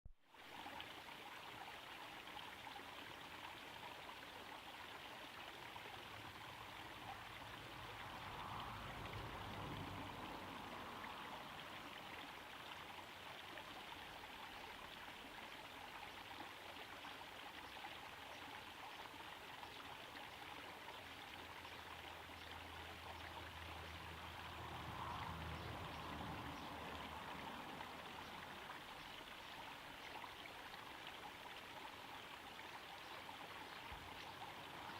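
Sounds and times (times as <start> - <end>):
waterfall splashing into pond: 0.3 - 34.9.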